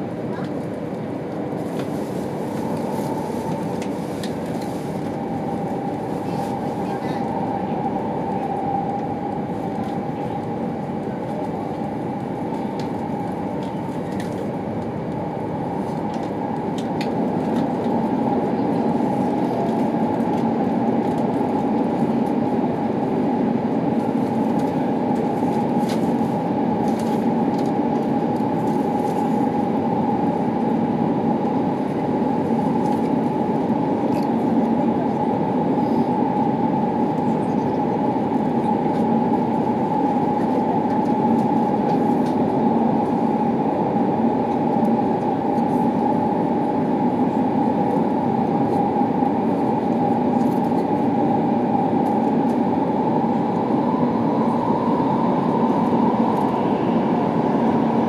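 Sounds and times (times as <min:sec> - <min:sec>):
train rumbling in tunnel: 0:00.0 - 0:58.0.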